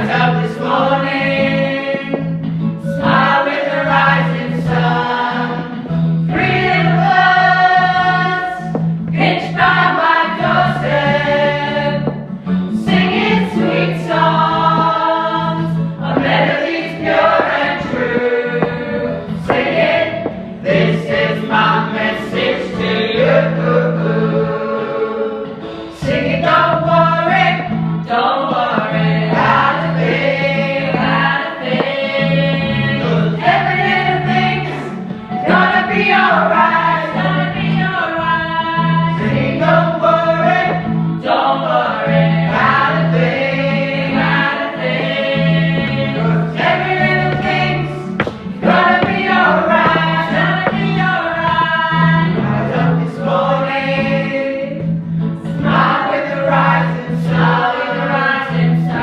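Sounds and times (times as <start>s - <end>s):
choir singing gospel song: 0.0s - 59.0s.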